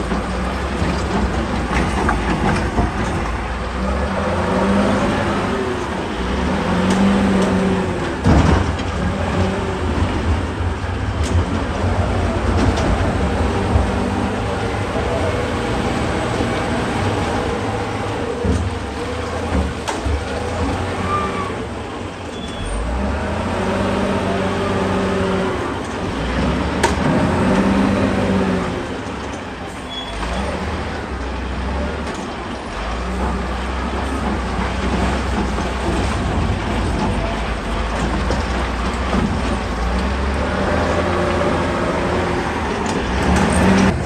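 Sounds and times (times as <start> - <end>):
excavator diesel engine: 0.0 - 44.0
hydraulics working: 0.0 - 44.0.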